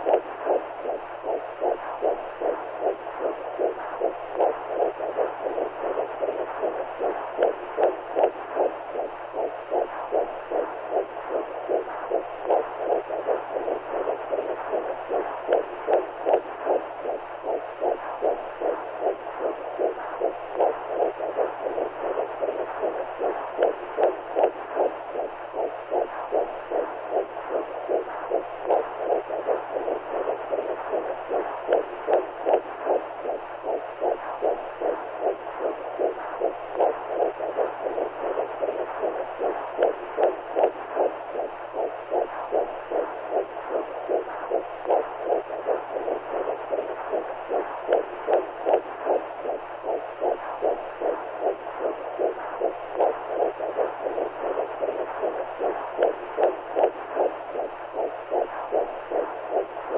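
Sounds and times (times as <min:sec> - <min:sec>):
rhythmic whooshing heartbeat pulse: 0:00.0 - 0:59.9
steady muffled hiss: 0:00.0 - 0:59.9.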